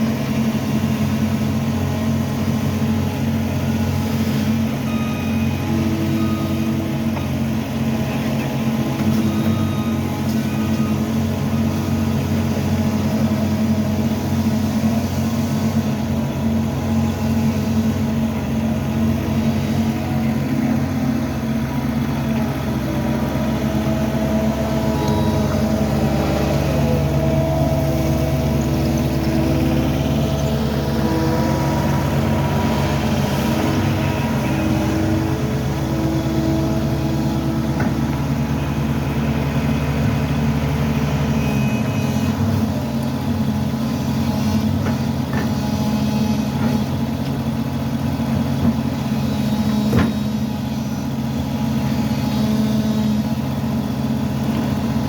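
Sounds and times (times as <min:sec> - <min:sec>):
motor engine running: 0:00.0 - 0:55.0.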